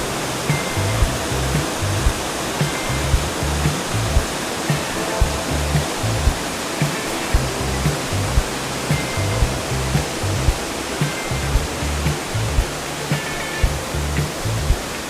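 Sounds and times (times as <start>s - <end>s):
music with low bass beat: 0.0s - 15.0s
waterfall rushing: 0.0s - 15.0s.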